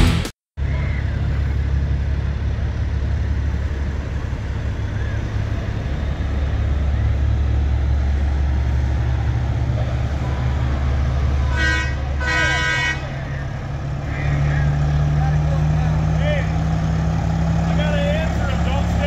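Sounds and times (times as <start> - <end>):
diesel truck engines idling: 0.0 - 19.0.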